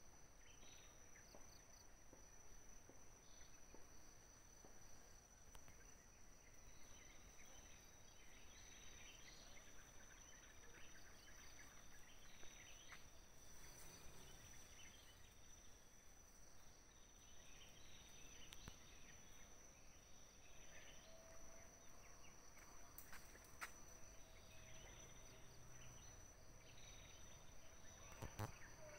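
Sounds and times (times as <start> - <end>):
faint chirps: 4.6 - 28.9.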